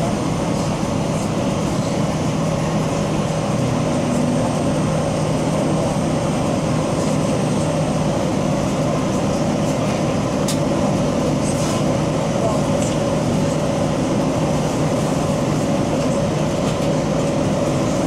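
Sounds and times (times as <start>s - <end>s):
airflow rushing in cabin: 0.0s - 18.0s
jet engines rumbling: 0.0s - 18.0s.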